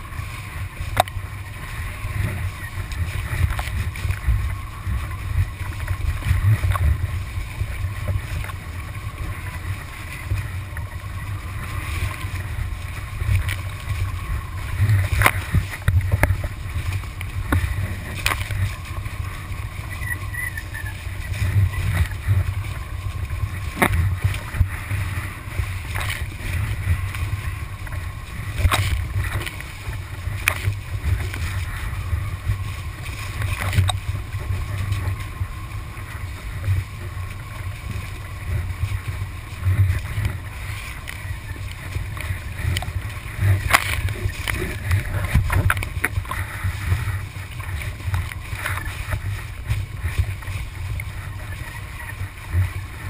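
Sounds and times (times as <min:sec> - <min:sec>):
water rushing and spraying: 0:00.0 - 0:53.0
wind rumbling on microphone: 0:00.0 - 0:53.0.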